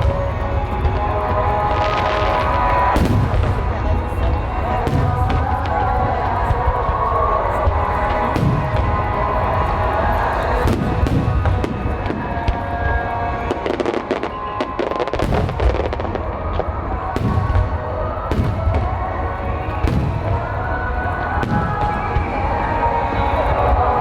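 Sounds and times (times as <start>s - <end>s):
crackling bangs: 0.0s - 24.0s
fireworks bursting: 0.0s - 24.0s.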